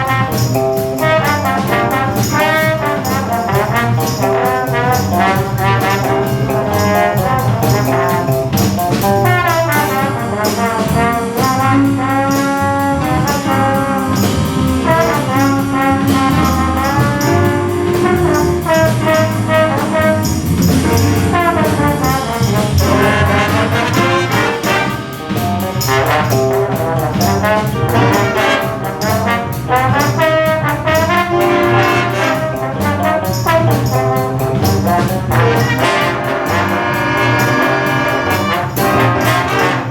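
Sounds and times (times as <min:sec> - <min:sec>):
brass horn lines: 0:00.0 - 0:39.9
jazz big band playing: 0:00.0 - 0:39.9.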